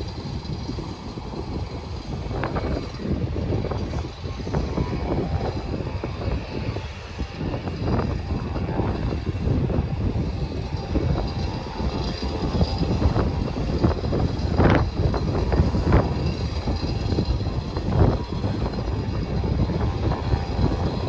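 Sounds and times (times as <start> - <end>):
faint high jet whine: 0.0 - 21.0
wind buffeting microphone: 0.0 - 21.0.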